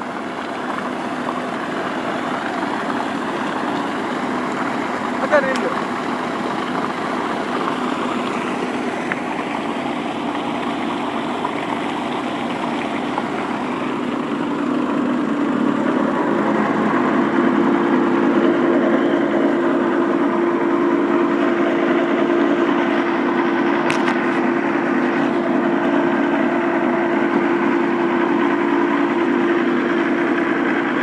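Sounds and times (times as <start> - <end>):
tractor diesel engine droning: 0.0 - 31.0
water pump humming: 0.0 - 31.0.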